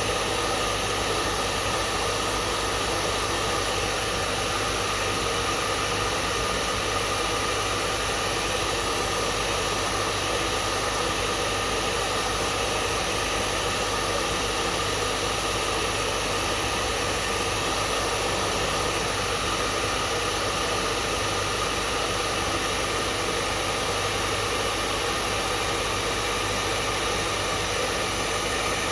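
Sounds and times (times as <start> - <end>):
hair dryer air rushing: 0.0 - 28.9.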